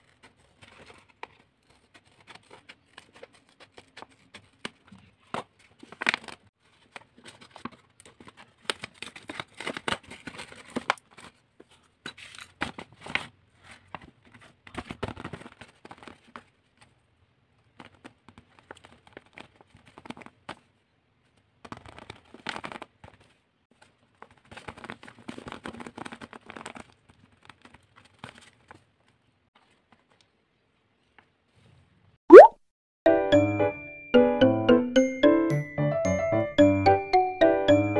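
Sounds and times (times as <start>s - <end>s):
tape-covered paper crinkling: 0.0s - 31.7s.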